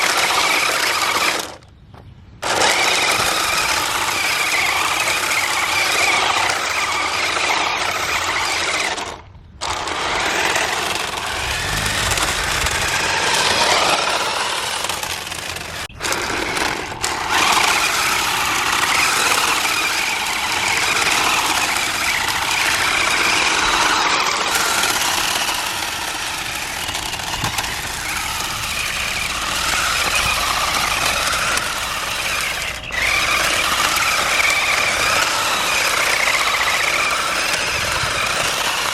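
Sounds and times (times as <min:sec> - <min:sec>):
plastic tires scraping on asphalt: 0:00.0 - 0:38.9
electric motor whining: 0:02.4 - 0:38.9.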